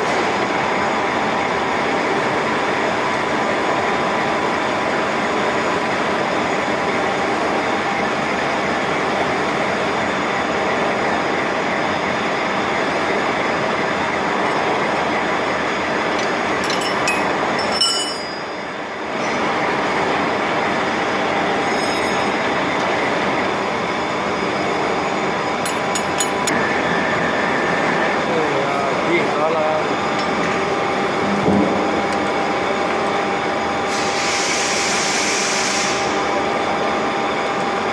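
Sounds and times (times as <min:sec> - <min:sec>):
milling machine humming and whining: 0:00.0 - 0:37.9.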